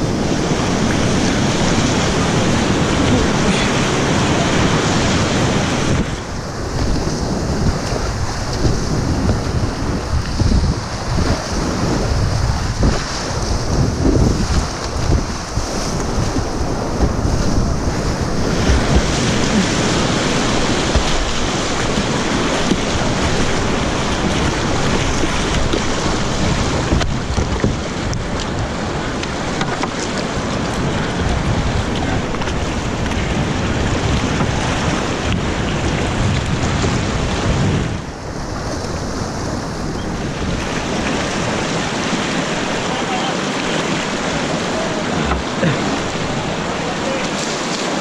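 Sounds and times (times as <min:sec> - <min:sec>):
rushing whitewater: 0:00.0 - 0:48.0
wind buffeting the microphone: 0:00.0 - 0:48.0.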